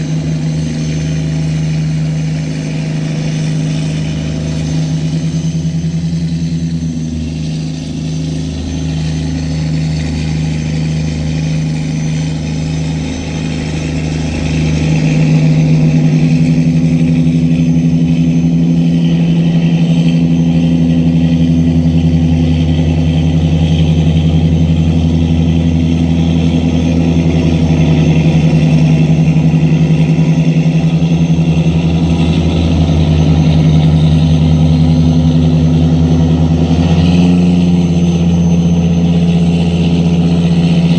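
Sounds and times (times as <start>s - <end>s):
tugboat engine droning: 0.0s - 40.9s.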